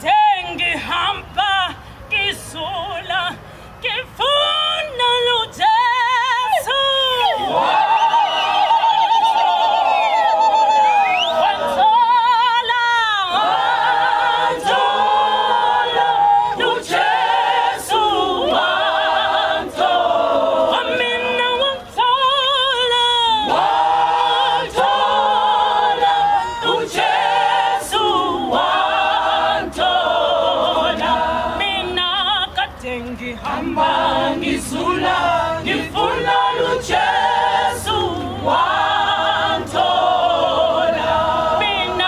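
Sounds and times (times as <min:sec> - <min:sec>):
choir singing a cappella: 0:02.2 - 0:42.0.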